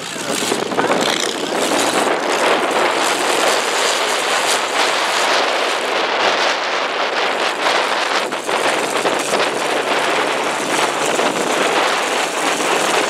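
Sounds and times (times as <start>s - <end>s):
several car engines running: 0.0s - 13.0s.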